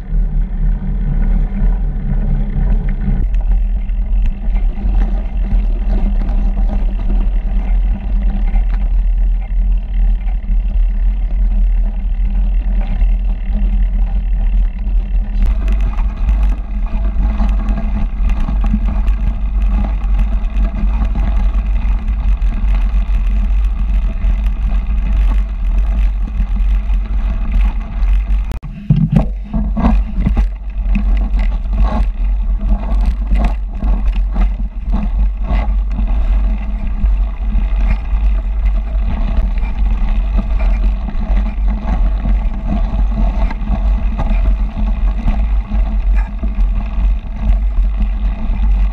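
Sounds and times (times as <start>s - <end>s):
bike rattling over bumps: 0.0s - 48.9s
bike tyres on packed snow: 0.0s - 48.9s
wind buffeting microphone: 0.0s - 48.9s.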